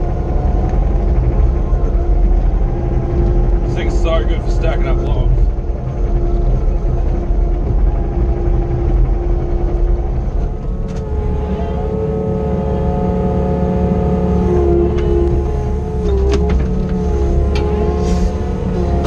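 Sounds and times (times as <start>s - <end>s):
diesel engine running: 0.0s - 19.0s
hydraulic whine: 0.0s - 19.0s.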